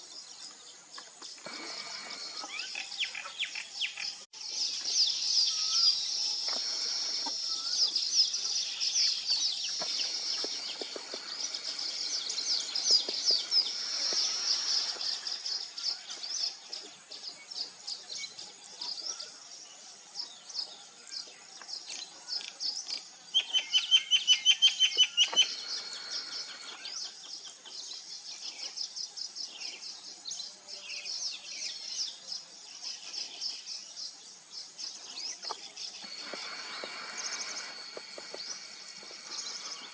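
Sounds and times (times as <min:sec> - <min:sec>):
weaver birds chattering: 0:00.0 - 0:39.9.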